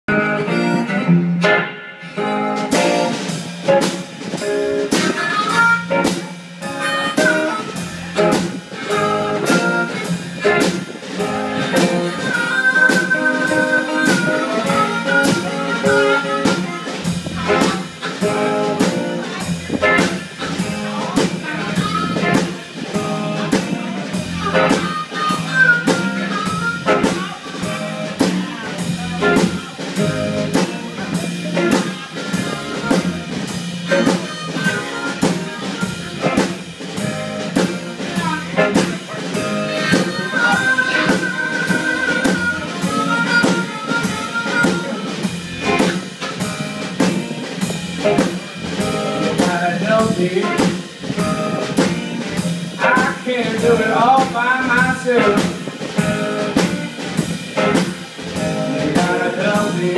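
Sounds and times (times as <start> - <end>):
electric blues band playing: 0.1 - 59.9
harmonica long held notes: 2.0 - 52.6.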